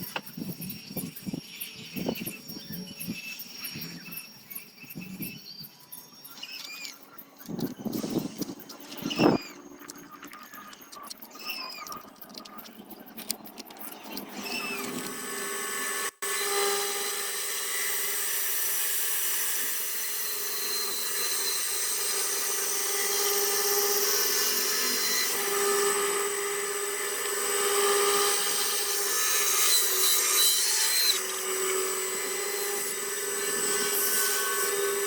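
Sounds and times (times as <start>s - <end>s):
rotary tool grinding wood: 6.4s - 35.0s.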